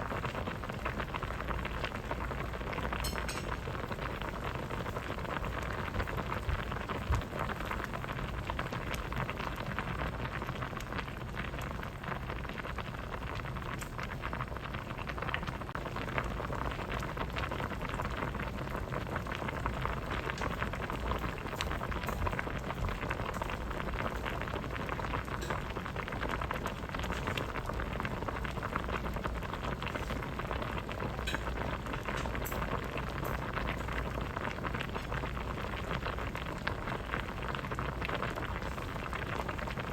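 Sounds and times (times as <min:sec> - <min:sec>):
soup boiling and bubbling: 0:00.0 - 0:39.9.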